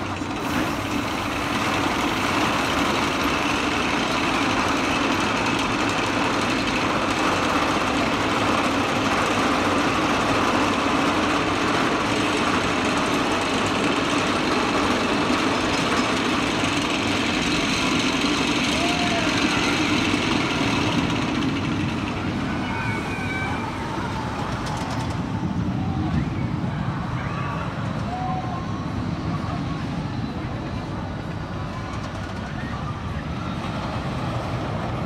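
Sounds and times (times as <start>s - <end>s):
lift chain hum and rattle: 0.0s - 35.0s.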